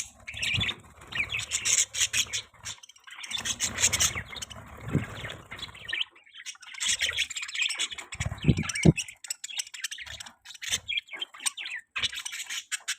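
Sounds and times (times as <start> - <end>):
budgies chirping: 0.0 - 12.9.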